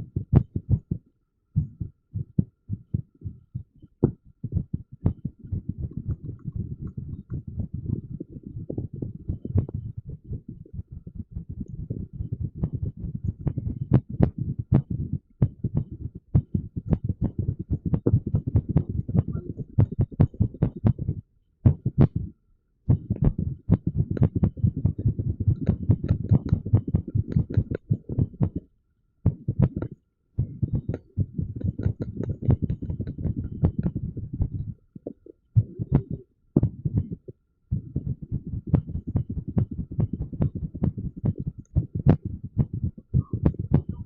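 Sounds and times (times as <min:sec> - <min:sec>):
amplified heartbeat thuds: 0:00.0 - 0:22.3, 0:22.9 - 0:28.6, 0:29.2 - 0:34.8, 0:35.6 - 0:44.0.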